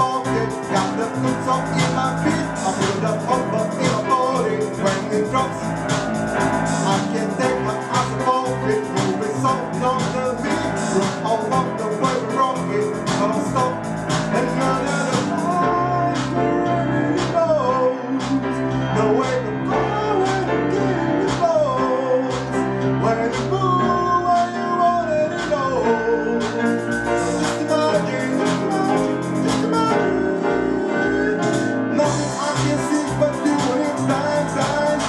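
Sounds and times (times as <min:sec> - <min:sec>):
man singing: 0:00.0 - 0:35.0
upright piano playing: 0:00.0 - 0:35.0.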